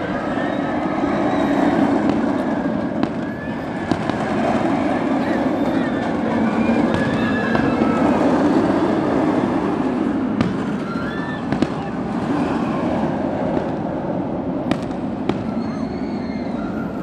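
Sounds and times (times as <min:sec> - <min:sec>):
roller coaster rumbling on track: 0:00.0 - 0:17.0
firework bangs: 0:01.0 - 0:14.0, 0:14.6 - 0:16.2.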